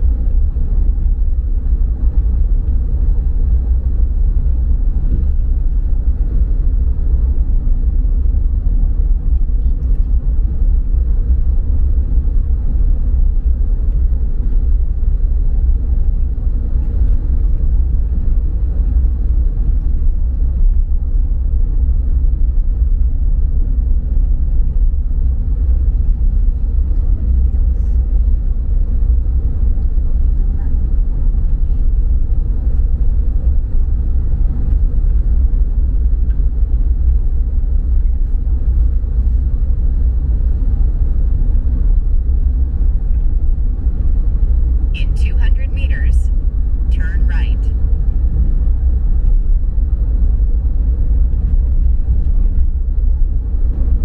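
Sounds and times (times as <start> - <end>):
car driving on highway: 0.0 - 54.0.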